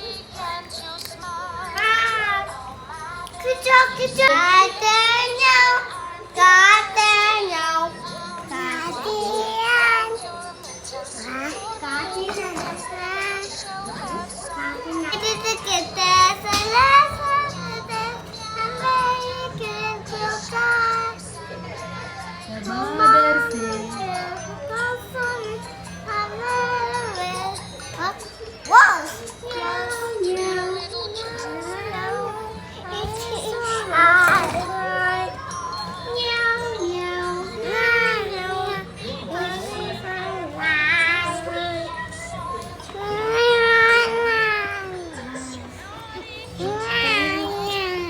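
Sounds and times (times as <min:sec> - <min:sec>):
child singing: 0:00.0 - 0:48.0.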